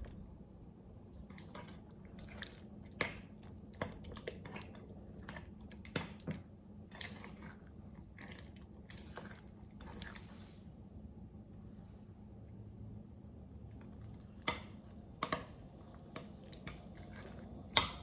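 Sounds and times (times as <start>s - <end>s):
slime squelching: 1.0s - 18.0s.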